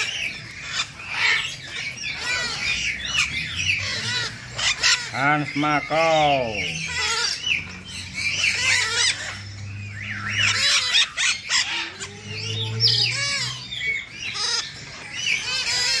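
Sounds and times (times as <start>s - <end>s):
parrots squawking and chattering: 0.0s - 16.0s.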